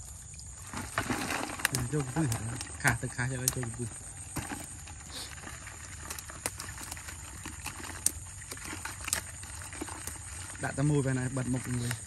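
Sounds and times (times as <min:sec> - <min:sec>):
fish tapping and rattling in trap: 0:00.6 - 0:12.0.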